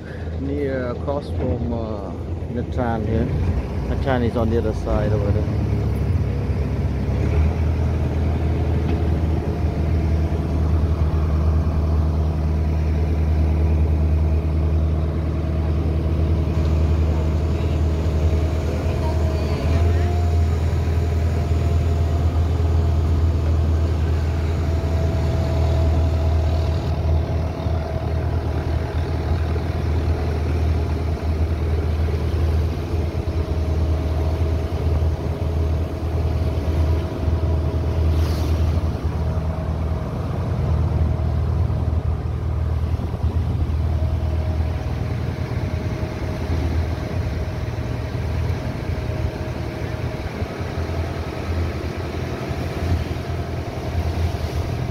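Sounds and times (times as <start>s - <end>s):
boat engine humming: 0.0s - 54.9s.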